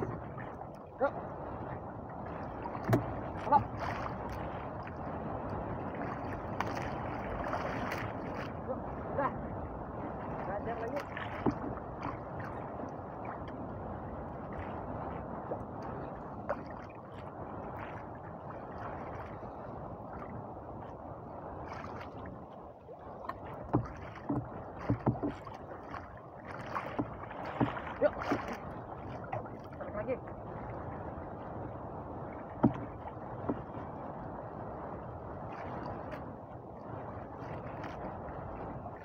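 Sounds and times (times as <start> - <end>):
water lapping against boat hull: 0.0 - 39.0.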